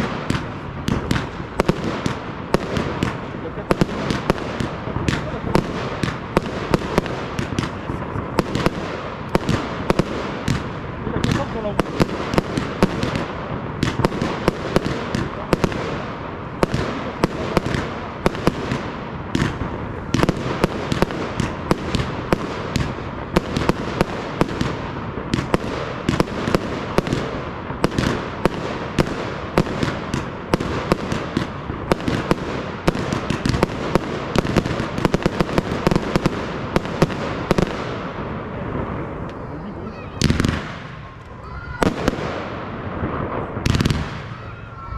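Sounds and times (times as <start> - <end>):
fireworks bursts and bangs: 0.0 - 44.9.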